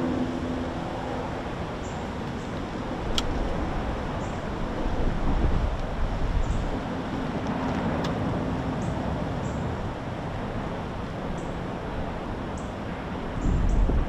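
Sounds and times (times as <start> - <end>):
lava fountain rushing rumble: 0.0 - 14.0.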